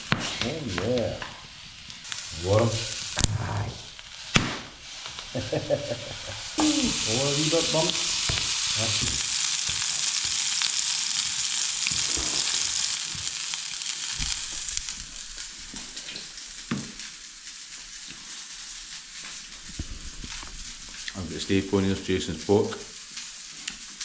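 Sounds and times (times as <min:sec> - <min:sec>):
meat sizzling in a frying pan: 0:00.0 - 0:24.0
wood fire crackling: 0:00.0 - 0:24.0.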